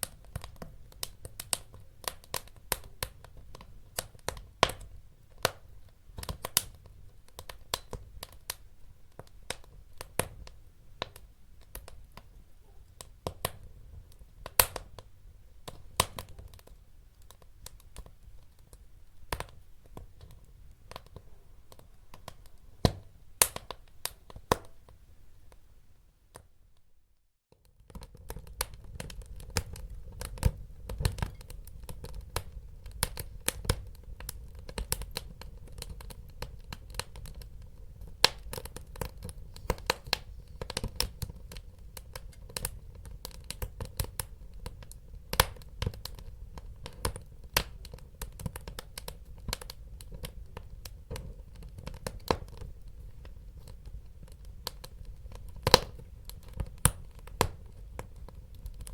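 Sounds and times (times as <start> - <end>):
wood fire crackling: 0.0 - 26.5, 27.6 - 58.9.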